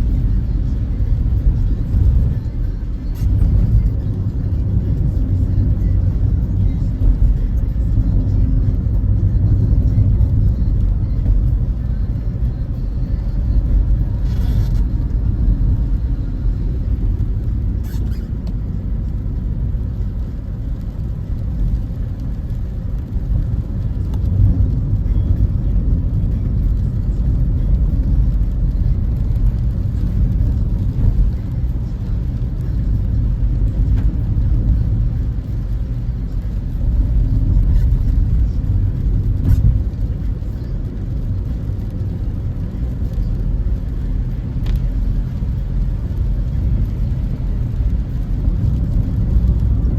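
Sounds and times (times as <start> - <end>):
car driving rumble: 0.0 - 49.9.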